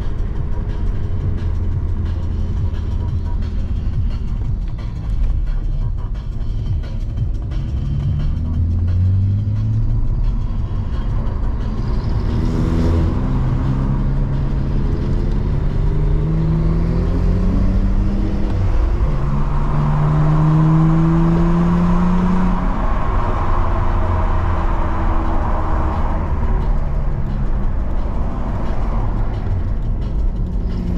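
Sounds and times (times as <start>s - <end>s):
car engine accelerating: 0.0s - 30.9s
road rumble: 0.0s - 30.9s.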